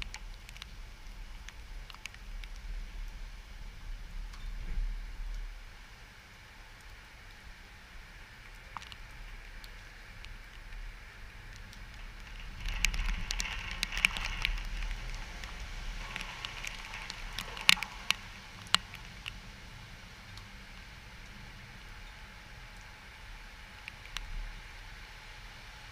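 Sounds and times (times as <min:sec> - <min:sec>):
heavy rain: 0:00.0 - 0:25.9
low wind rumble: 0:00.0 - 0:25.9
rain drop impacts: 0:00.0 - 0:25.9.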